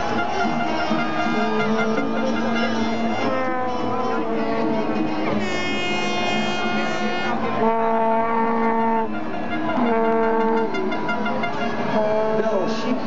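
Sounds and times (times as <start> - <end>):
vuvuzela horn notes: 0.0 - 12.3
drone of horns: 0.0 - 12.7
crowd noise: 0.0 - 13.0.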